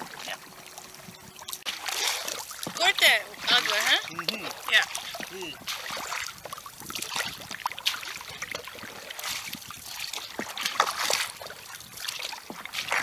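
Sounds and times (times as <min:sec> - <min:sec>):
water splashing and sloshing in canoe: 0:00.0 - 0:13.0.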